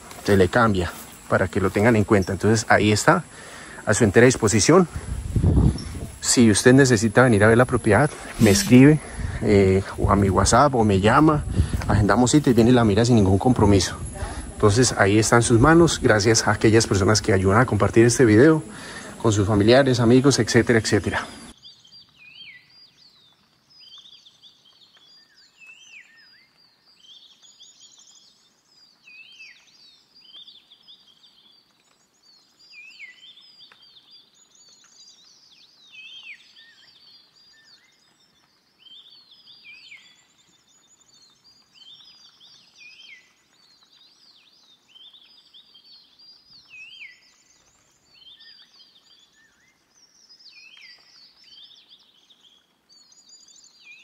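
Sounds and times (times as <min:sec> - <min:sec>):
birds chirping and singing: 0:00.0 - 0:54.0
faint steady hiss: 0:00.0 - 0:54.0.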